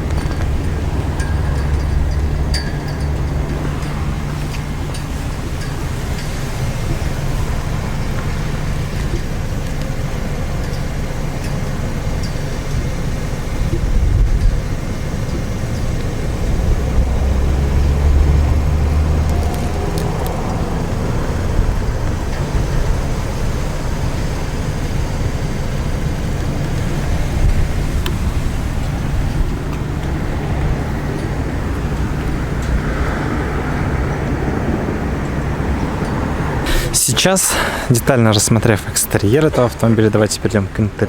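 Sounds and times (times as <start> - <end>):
road traffic rumble: 0.0 - 41.0
vehicle passing: 0.0 - 41.0.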